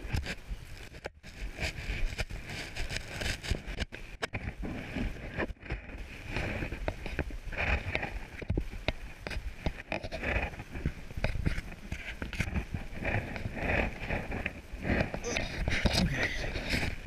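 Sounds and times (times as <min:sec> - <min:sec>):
camera rustling: 0:00.0 - 0:17.0.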